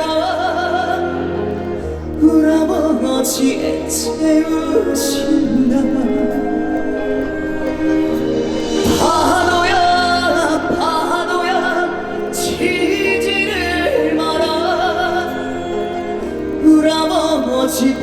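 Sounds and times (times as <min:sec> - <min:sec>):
backing track music: 0:00.0 - 0:18.0
person singing with vibrato: 0:00.0 - 0:18.0.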